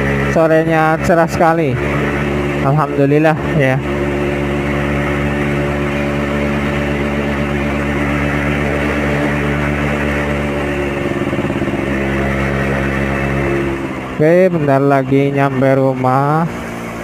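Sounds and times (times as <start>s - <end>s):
two-stroke motorcycle engine running: 0.0s - 17.0s.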